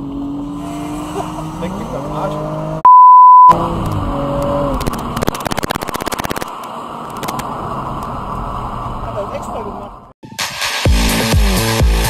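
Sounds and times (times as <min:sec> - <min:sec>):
car road and engine noise: 0:00.0 - 0:10.2.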